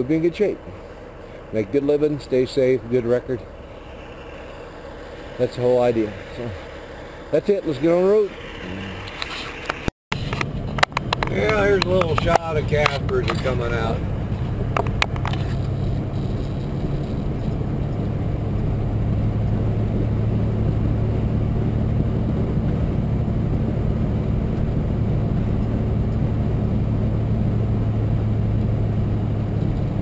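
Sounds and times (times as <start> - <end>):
diesel engine droning: 0.0 - 30.0
road rumble: 0.0 - 30.0.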